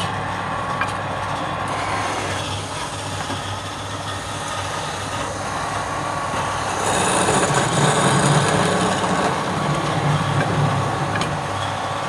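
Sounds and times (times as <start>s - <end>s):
wood lathe motor hum: 1.2s - 12.0s.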